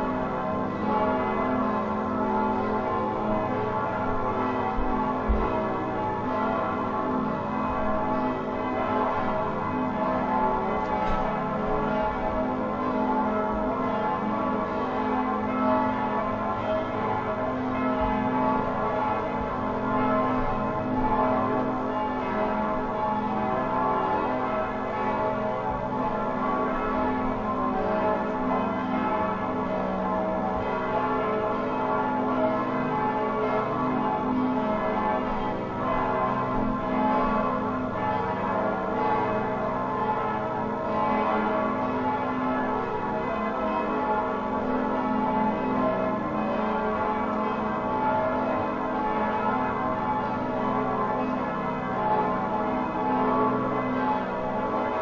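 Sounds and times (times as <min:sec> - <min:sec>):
church bells ringing: 0:00.0 - 0:55.0.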